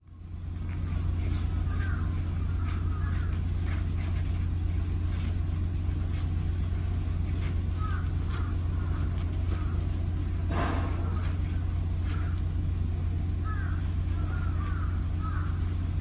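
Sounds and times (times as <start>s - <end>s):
construction machinery rumble: 0.0s - 16.0s.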